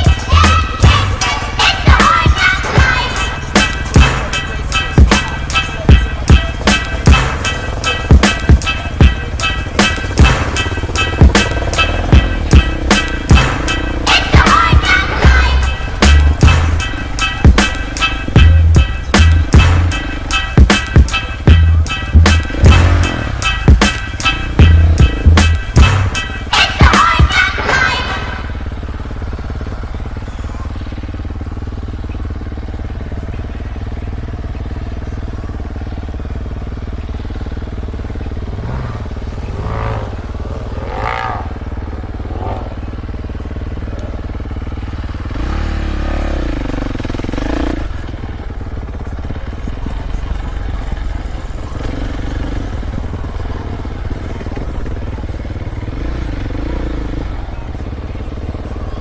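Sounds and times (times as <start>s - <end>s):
dirt bike engine rumbling and revving: 0.0s - 59.0s.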